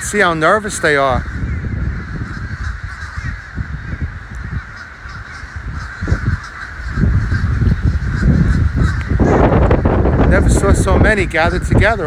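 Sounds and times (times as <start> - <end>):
low rumbling noise: 0.0 - 12.0
flock of crows calling: 0.2 - 10.3.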